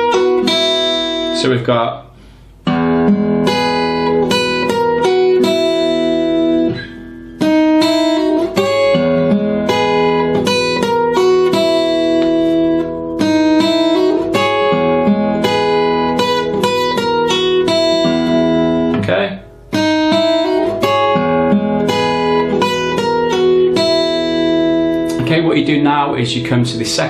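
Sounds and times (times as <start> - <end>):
fingerstyle acoustic guitar: 0.0 - 1.4, 2.3 - 27.0.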